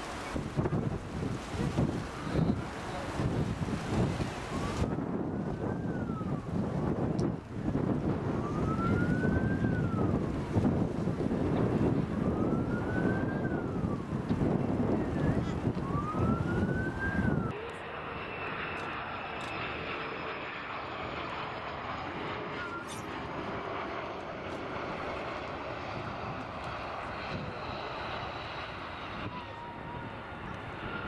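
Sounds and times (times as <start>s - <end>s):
wind buffeting microphone: 0.0s - 17.6s, 21.9s - 31.0s
jet engine whine: 0.0s - 31.0s
jet engines rumbling: 0.0s - 31.0s
siren-like rising and falling tone: 4.0s - 10.4s, 11.5s - 31.0s.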